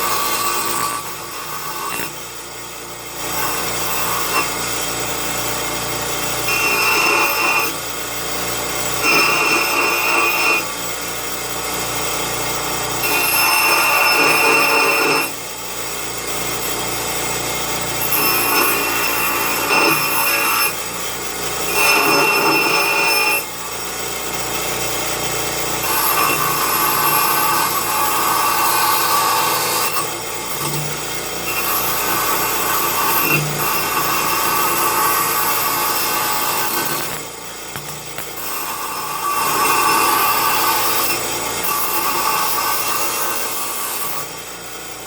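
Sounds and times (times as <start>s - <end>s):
power tool whining and rasping: 0.0s - 45.0s.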